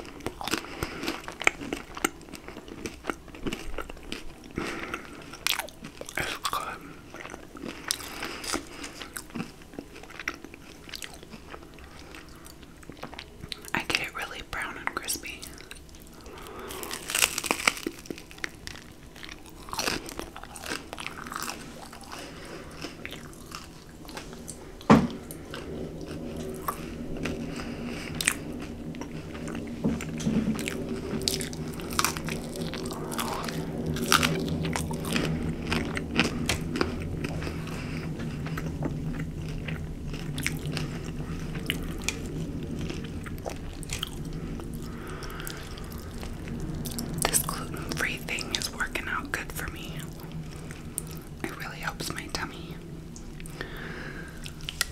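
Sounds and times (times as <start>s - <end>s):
chewing food: 0.0s - 54.9s
low steady hum: 0.0s - 54.9s.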